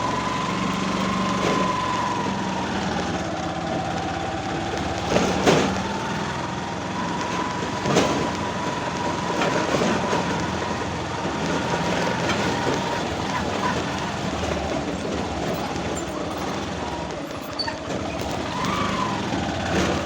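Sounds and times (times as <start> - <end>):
vehicle engine whine and rumble: 0.0 - 20.0.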